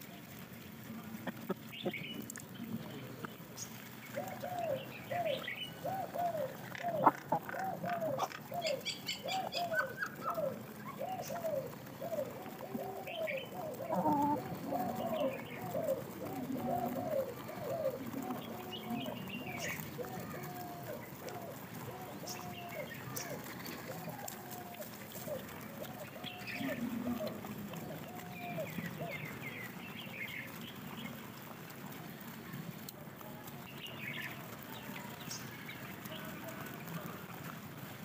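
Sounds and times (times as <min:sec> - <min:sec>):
chickens clucking: 0:00.3 - 0:31.6.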